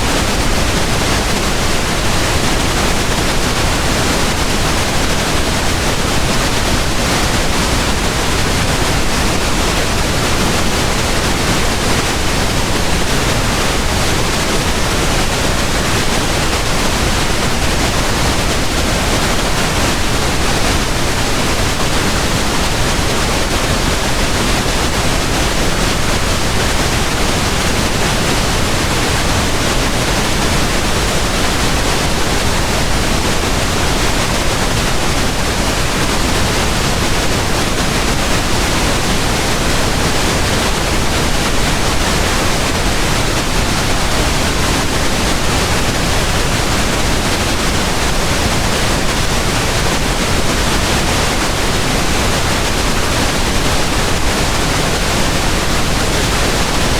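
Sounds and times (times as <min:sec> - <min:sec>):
pink noise hiss: 0:00.0 - 0:56.9.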